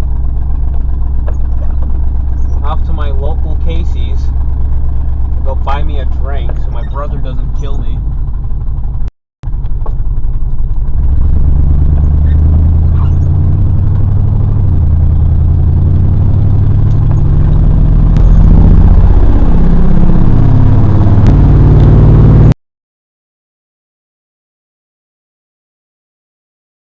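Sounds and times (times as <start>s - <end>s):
car engine accelerating: 0.0s - 22.6s.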